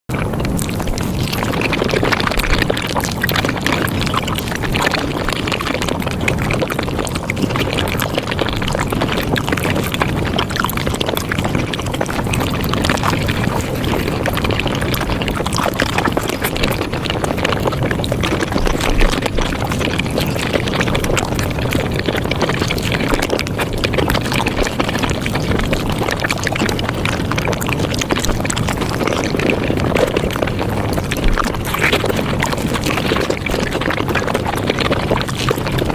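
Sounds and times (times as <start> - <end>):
sped-up eating crackling: 0.1 - 35.9.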